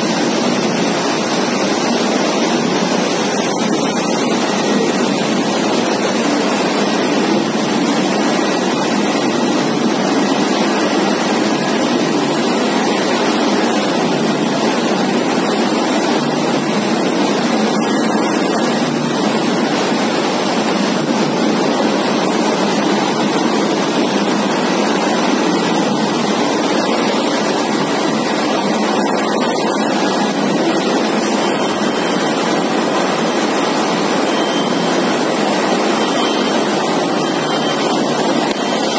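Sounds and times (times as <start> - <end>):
factory production line running: 0.0 - 38.9
thin high whine: 0.0 - 38.9.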